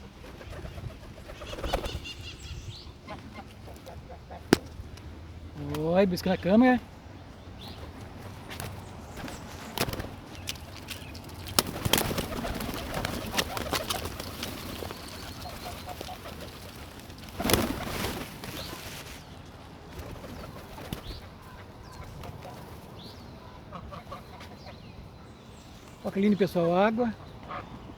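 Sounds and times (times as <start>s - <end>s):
birds calling and cooing: 0.0s - 27.9s.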